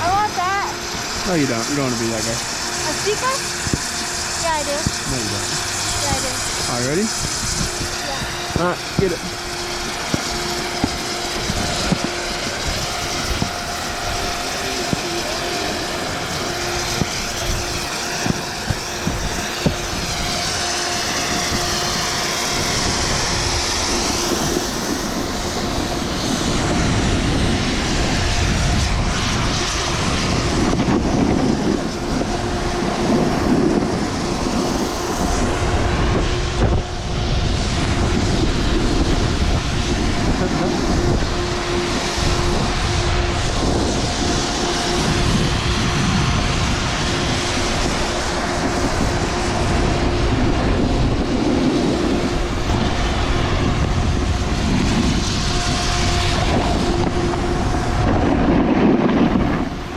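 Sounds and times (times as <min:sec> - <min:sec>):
steady hum: 0:00.0 - 0:59.9
wind on microphone: 0:00.0 - 0:59.9.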